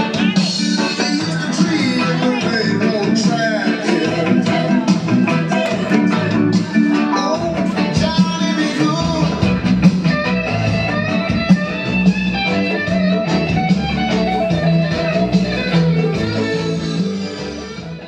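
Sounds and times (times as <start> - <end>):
background music with guitar: 0.0 - 18.0
bass line: 0.0 - 18.0
steady beat: 0.0 - 18.0.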